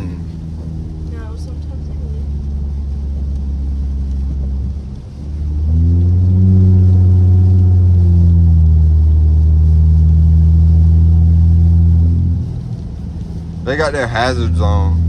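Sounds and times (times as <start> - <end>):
car exhaust droning: 0.0 - 15.0.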